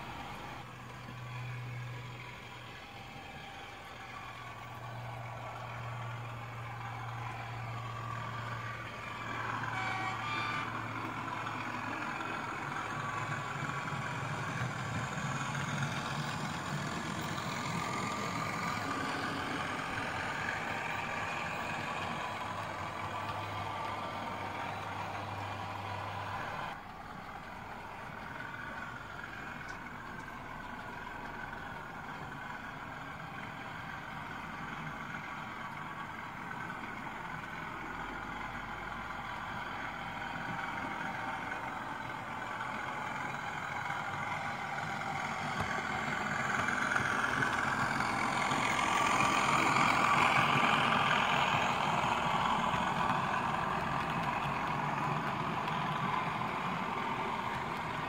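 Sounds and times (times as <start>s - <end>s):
model train diesel engine sound: 0.0s - 58.0s
wheels rumbling on model track: 0.0s - 58.0s.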